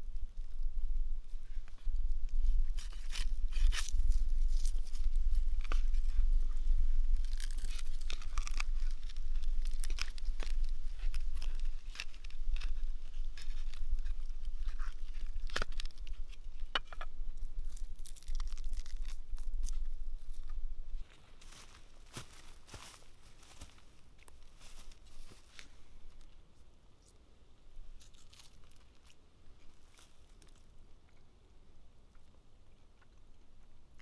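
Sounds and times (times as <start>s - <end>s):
crisp crust crackling and tearing: 0.0s - 26.3s, 27.9s - 31.2s.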